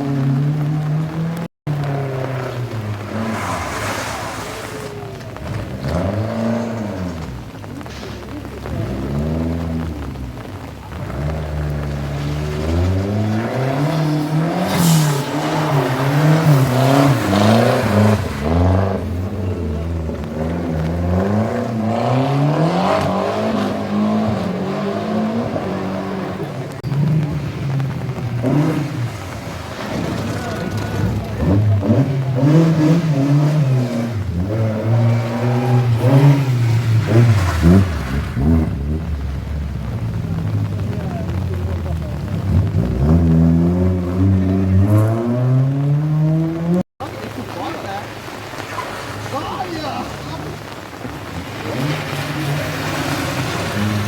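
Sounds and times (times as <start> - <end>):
car engine revving hard: 0.0 - 54.0.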